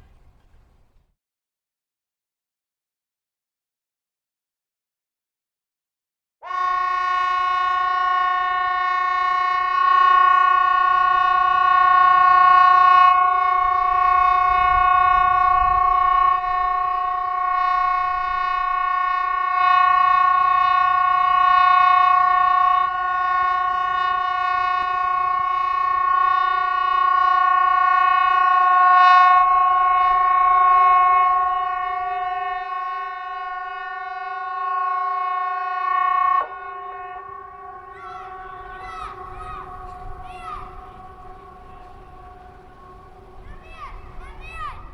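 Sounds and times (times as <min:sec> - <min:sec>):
civil defence siren steady tone: 0:06.4 - 0:44.9.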